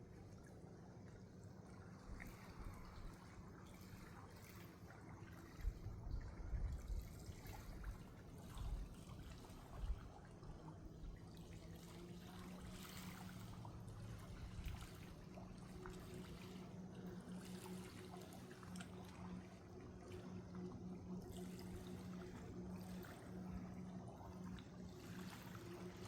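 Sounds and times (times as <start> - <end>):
steady low hum: 0.0 - 26.0
water splashing and trickling: 0.1 - 26.0.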